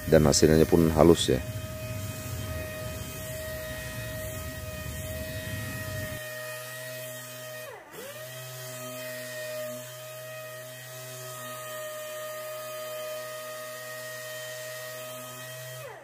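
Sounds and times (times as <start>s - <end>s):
air sander whining: 0.0s - 16.0s.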